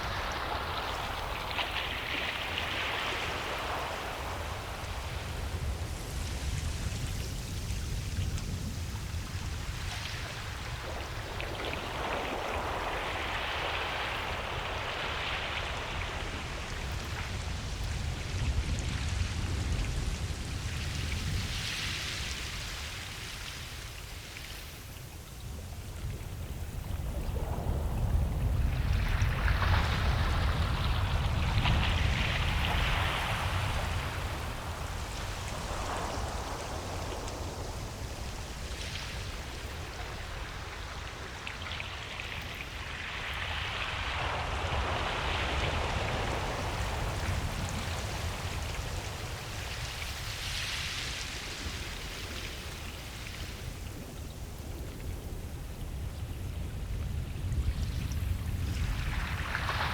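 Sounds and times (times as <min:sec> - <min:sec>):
ocean waves breaking: 0:00.0 - 0:23.4, 0:26.4 - 0:59.9.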